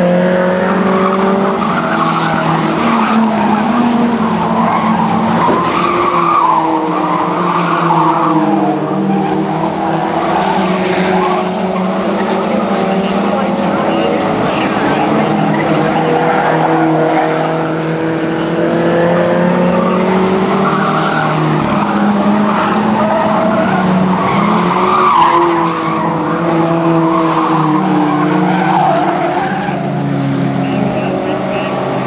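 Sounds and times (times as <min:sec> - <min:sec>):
race car engines: 0:00.0 - 0:32.0
tyres skidding: 0:00.0 - 0:32.0.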